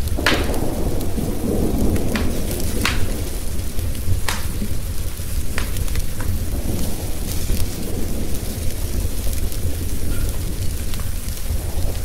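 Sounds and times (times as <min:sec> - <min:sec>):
burning logs crackling: 0:00.0 - 0:12.0
low rumble of thunder: 0:00.0 - 0:12.0
rain hiss: 0:00.0 - 0:12.0.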